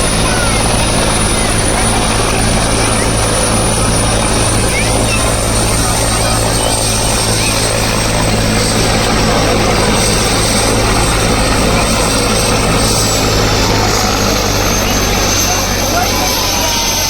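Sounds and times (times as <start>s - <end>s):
helicopter rotor drone: 0.0s - 17.0s
high turbine whine: 0.0s - 17.0s.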